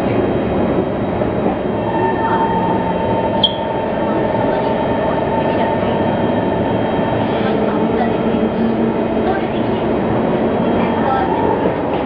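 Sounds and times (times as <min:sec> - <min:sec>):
train car running hum: 0:00.0 - 0:12.0.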